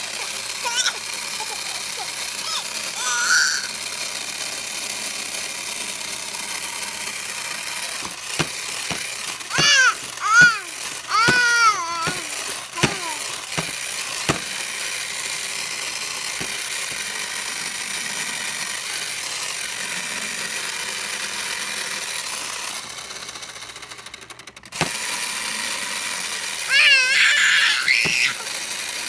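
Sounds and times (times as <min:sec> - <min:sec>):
saw winding down ticks: 0:00.0 - 0:29.0
toy saw buzzing whirr: 0:00.0 - 0:29.0
toy saw clicks: 0:00.0 - 0:29.0.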